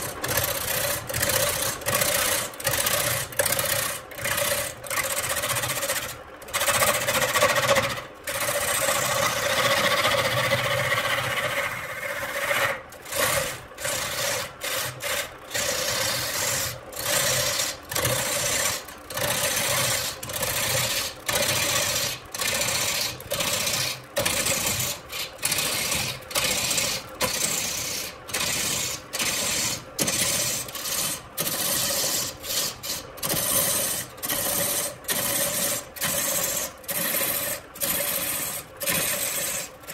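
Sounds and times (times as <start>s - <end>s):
turning tool scraping wood: 0.0s - 39.9s
wood lathe humming: 6.6s - 39.9s.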